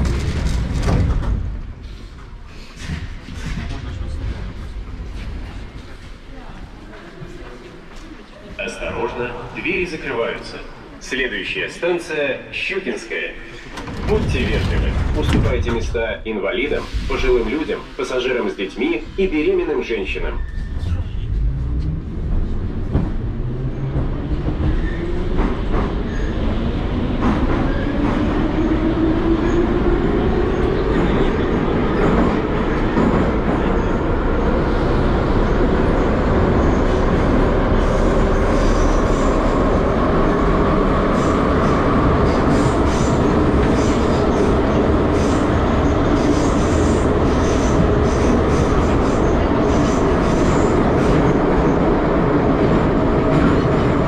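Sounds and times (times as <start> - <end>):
rumble of wheels on rails: 0.0 - 9.5, 13.4 - 54.0.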